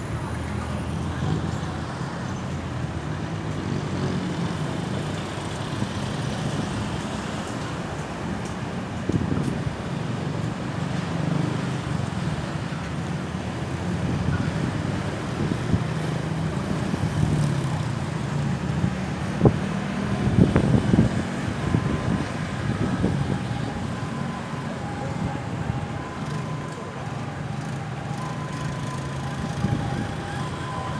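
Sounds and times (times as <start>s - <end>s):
road traffic rumble: 0.0s - 30.9s.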